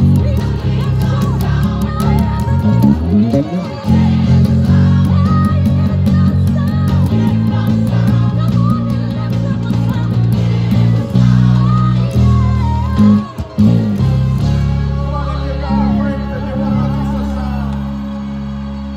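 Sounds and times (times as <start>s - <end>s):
backing music melody: 0.0s - 18.9s
electric bass guitar plucking: 0.0s - 18.9s.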